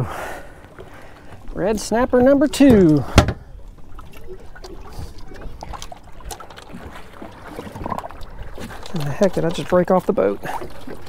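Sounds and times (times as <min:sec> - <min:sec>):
water lapping boat: 0:00.0 - 0:11.0
wind: 0:00.0 - 0:11.0.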